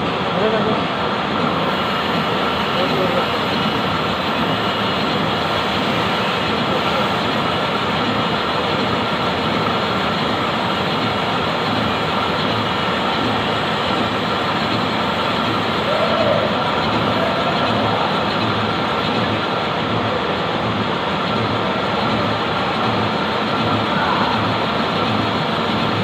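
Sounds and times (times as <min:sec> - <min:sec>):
machinery running: 0:00.0 - 0:26.0.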